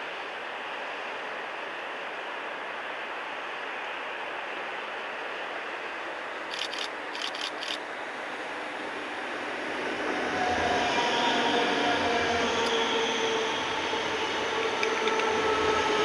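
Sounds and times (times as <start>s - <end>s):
train rail rumble: 0.0s - 16.0s.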